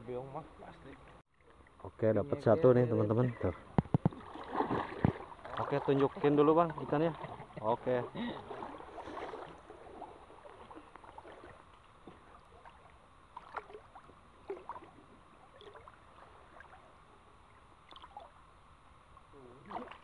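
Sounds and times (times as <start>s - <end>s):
stream water gurgling: 0.6s - 20.0s.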